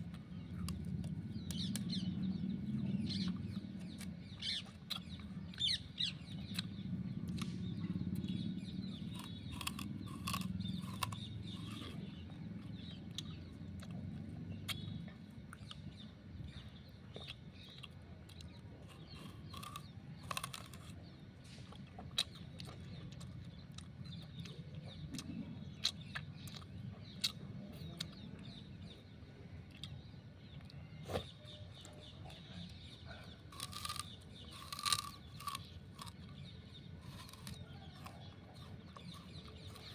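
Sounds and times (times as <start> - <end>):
sugarcane crunching being chewed: 0.0 - 39.9.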